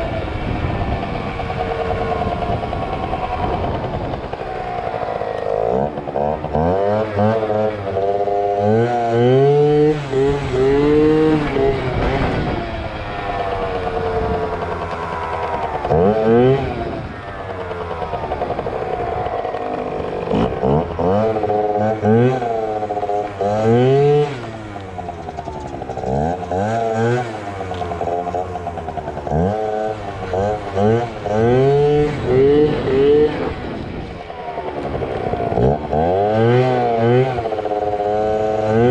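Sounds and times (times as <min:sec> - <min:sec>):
scooter engine revving: 0:00.0 - 0:38.9.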